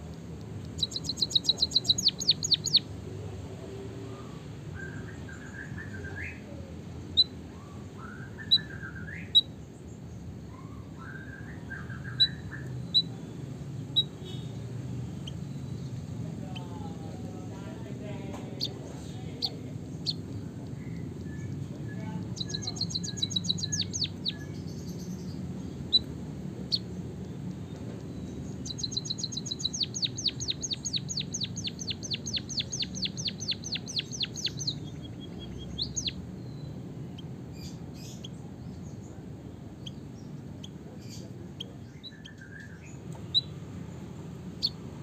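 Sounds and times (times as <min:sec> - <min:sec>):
low background hum: 0:00.0 - 0:45.0
bird singing rolling trills: 0:00.5 - 0:02.9, 0:04.7 - 0:45.0
bird chirps: 0:00.6 - 0:02.9, 0:07.2 - 0:13.2, 0:13.8 - 0:17.2, 0:19.4 - 0:43.6, 0:44.5 - 0:44.8.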